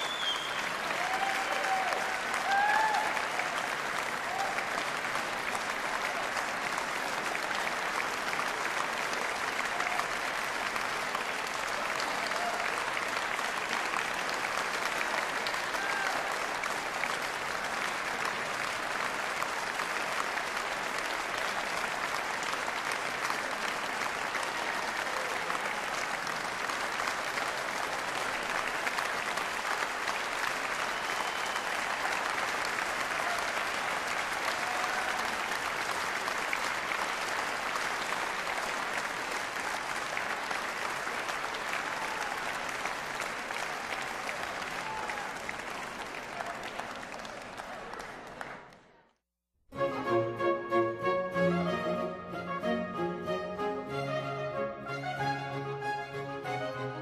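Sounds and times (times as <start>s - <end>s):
audience applauding: 0.0s - 49.2s.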